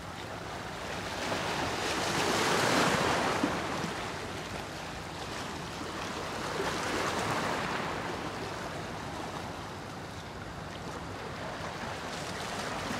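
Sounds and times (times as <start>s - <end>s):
small waves lapping on rocks: 0.0s - 12.9s.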